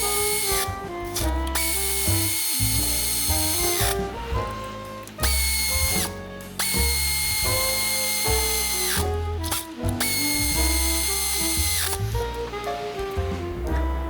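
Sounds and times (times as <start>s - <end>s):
power drill whining: 0.0s - 13.3s
background music: 0.0s - 14.0s.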